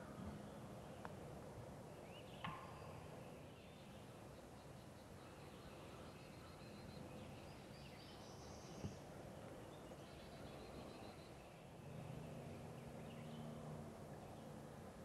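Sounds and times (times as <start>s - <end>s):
distant songbirds trilling: 1.8s - 14.8s.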